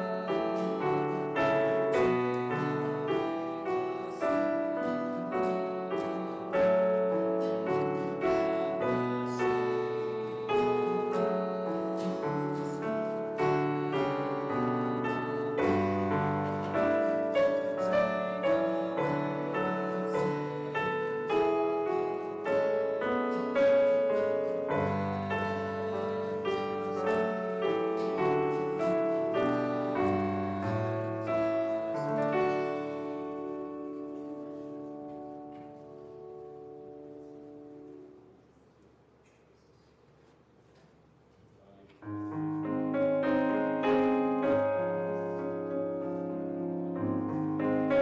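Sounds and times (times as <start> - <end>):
piano chords: 0.0 - 38.5, 42.0 - 48.0.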